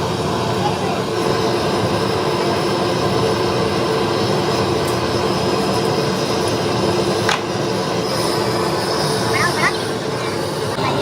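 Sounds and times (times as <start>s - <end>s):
machine running with high whine: 0.0s - 11.0s.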